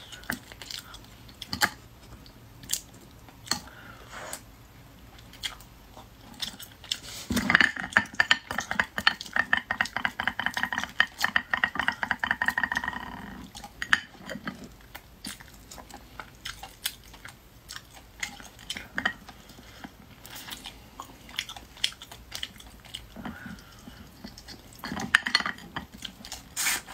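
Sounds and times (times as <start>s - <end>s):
chewing and crunching crab: 0.0s - 26.9s.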